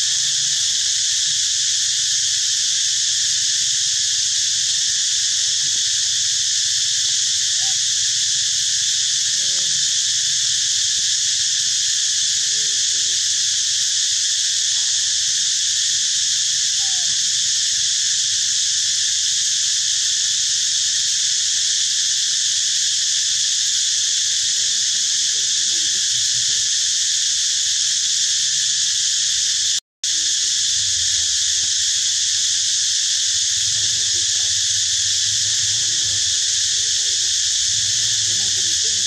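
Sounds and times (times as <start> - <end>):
chorus of forest insects: 0.0 - 39.0.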